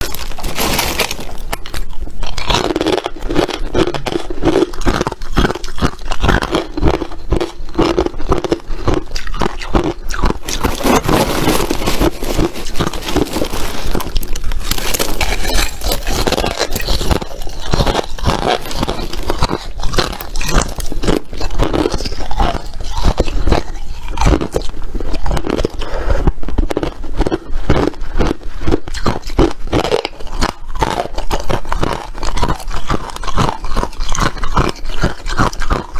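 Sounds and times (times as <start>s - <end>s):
crunchy ice chewing: 0.0s - 35.9s.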